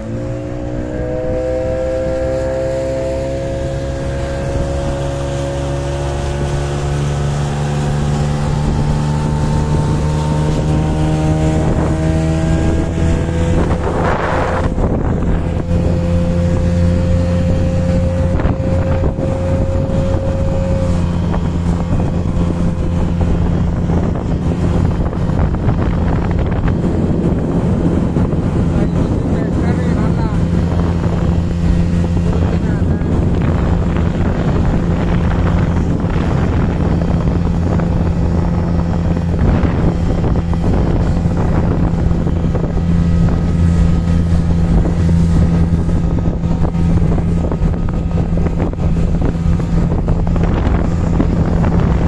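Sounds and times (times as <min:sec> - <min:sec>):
boat engine running: 0:00.0 - 0:52.0
wind on microphone: 0:00.0 - 0:52.0.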